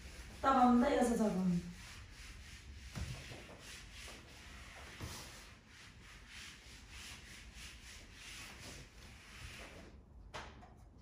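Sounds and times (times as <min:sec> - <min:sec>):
rubbing strokes on a board: 0:00.0 - 0:09.9.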